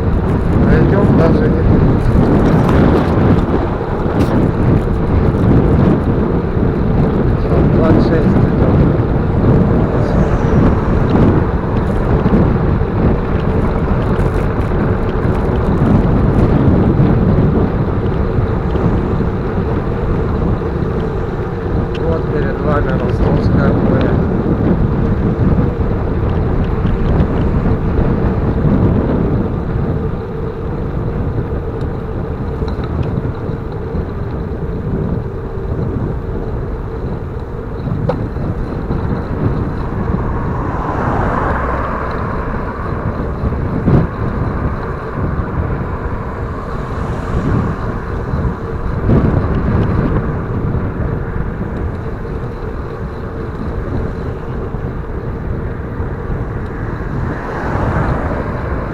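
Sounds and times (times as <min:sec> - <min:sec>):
passing traffic: 0:00.0 - 0:58.9
road noise: 0:00.0 - 0:58.9
wind rumble: 0:00.0 - 0:58.9.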